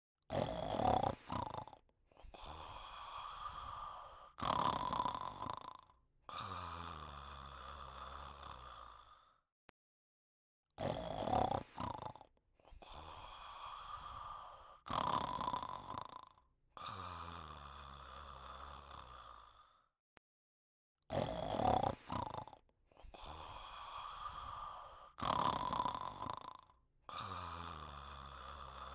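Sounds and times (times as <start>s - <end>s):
person snoring and snorting: 0.3s - 9.4s, 10.8s - 19.9s, 21.1s - 28.9s.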